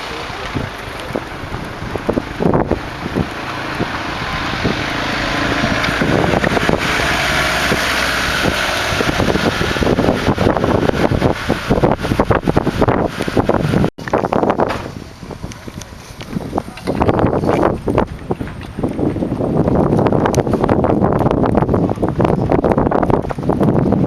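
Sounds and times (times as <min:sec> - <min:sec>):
knocks and crackles: 0:00.0 - 0:21.3
wind buffeting microphone: 0:00.0 - 0:24.0.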